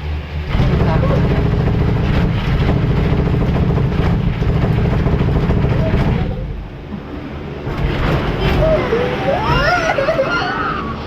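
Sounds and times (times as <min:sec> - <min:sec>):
fairground ride mechanical rumble: 0:00.0 - 0:11.0.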